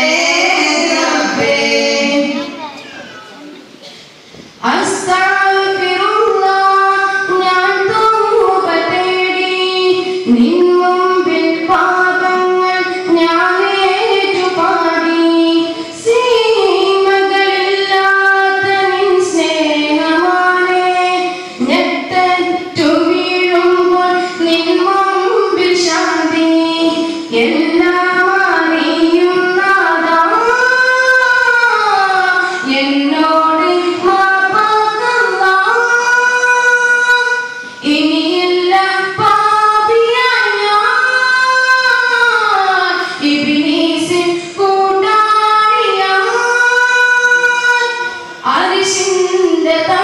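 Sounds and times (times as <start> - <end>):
boy singing through a microphone: 0.0 - 50.0.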